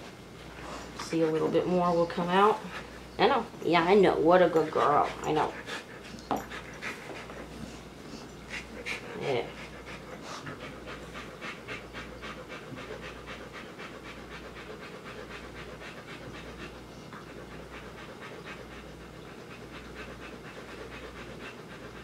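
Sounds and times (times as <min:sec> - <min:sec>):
dog panting: 0:00.4 - 0:22.0.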